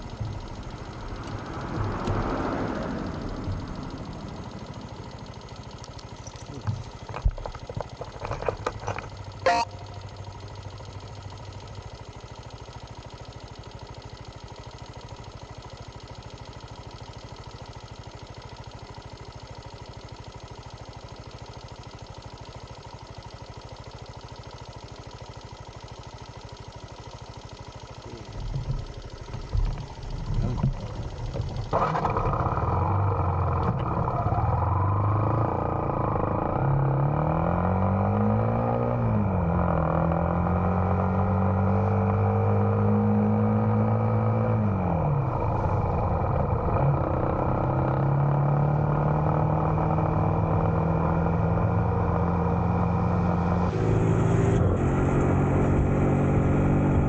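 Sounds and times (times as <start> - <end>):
vehicle engine idling and accelerating: 0.0 - 57.0.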